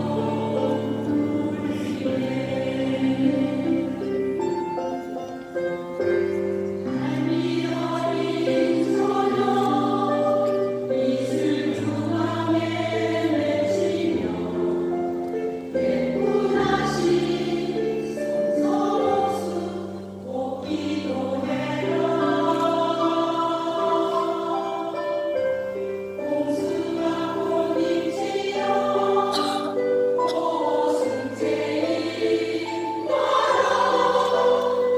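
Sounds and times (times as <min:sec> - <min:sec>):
choir singing held chords: 0:00.0 - 0:34.9.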